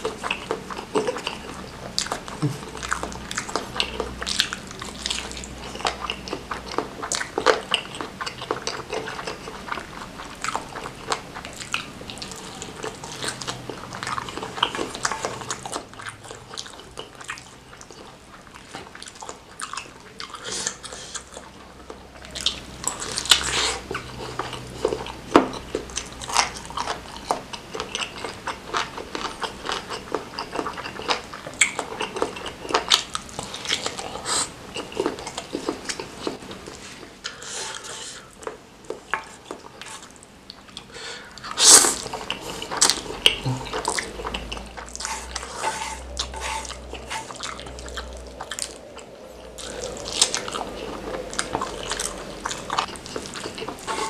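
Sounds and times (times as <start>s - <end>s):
chewing with wet clicks: 0.0s - 54.0s.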